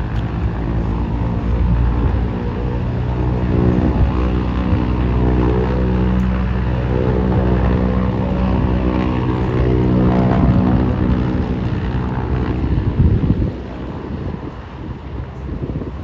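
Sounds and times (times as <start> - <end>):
loud low rumble: 0.0 - 14.4
propeller engines droning: 0.0 - 16.0.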